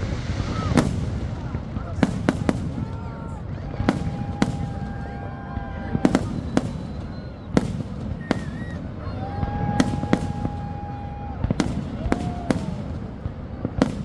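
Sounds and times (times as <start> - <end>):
fireworks bangs: 0.0 - 14.0
fireworks whistling: 0.0 - 14.0.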